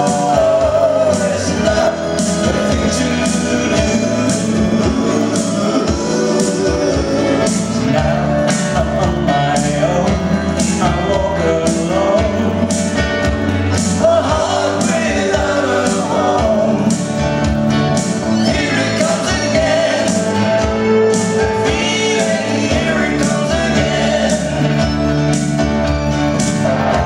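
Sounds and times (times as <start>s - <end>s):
man singing: 0.0s - 25.1s
live band playing: 0.0s - 27.0s.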